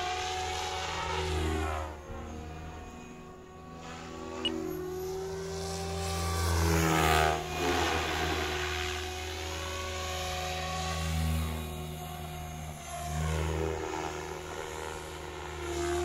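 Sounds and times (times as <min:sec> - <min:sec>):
rc helicopter rotor hum: 0:00.0 - 0:16.0.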